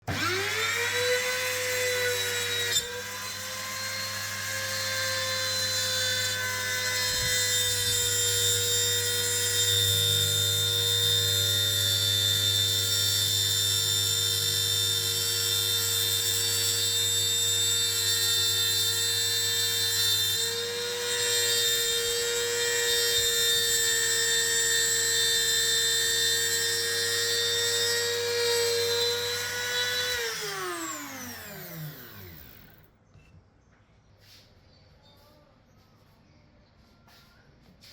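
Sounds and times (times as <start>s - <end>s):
power tool motor whining: 0.0s - 32.9s.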